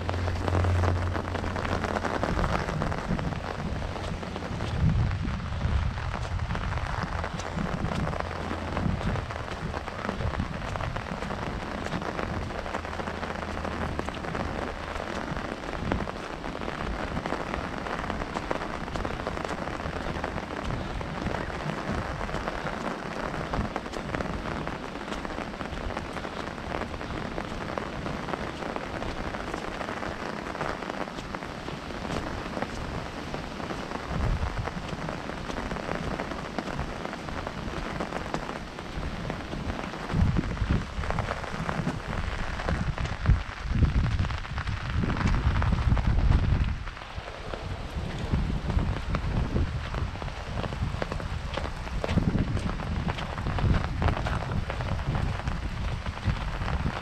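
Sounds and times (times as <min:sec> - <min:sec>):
rain pattering on an umbrella: 0:00.0 - 0:57.0
wind rumbling on microphone: 0:00.0 - 0:57.0.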